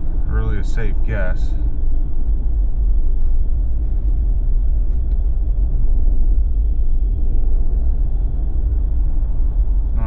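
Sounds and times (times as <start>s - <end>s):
vehicle driving on snowy road: 0.0s - 10.0s.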